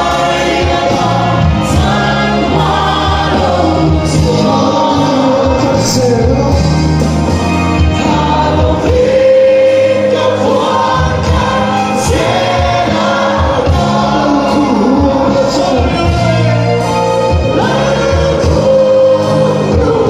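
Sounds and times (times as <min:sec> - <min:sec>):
amplified singers: 0:00.0 - 0:20.0
bass line: 0:00.0 - 0:20.0
congregation singing: 0:00.0 - 0:20.0
guitars: 0:00.0 - 0:20.0.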